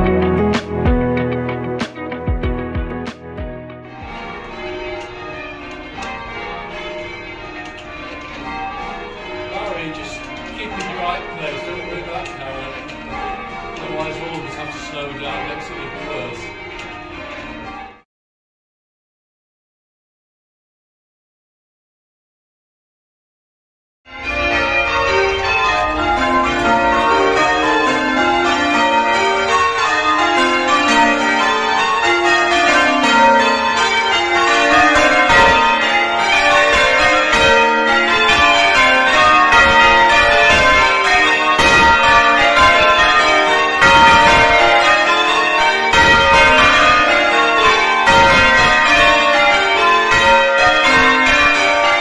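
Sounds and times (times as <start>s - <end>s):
church bells change ringing: 0.0s - 18.0s, 24.1s - 52.0s.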